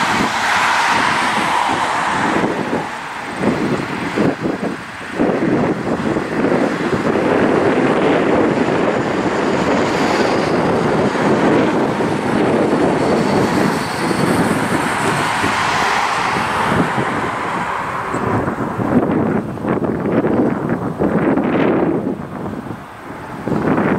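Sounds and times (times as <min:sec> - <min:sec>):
propeller aircraft drone: 0:00.0 - 0:23.9
wind buffeting microphone: 0:00.0 - 0:23.9.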